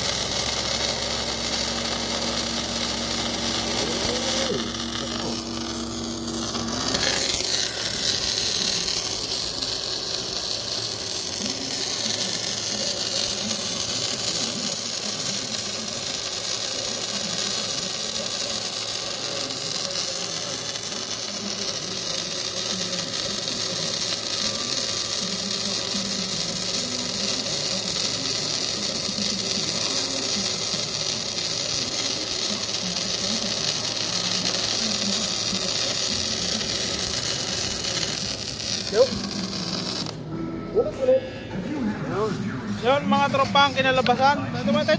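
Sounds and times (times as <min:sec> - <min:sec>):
welding arc hissing: 0:00.0 - 0:40.3, 0:42.0 - 0:44.9.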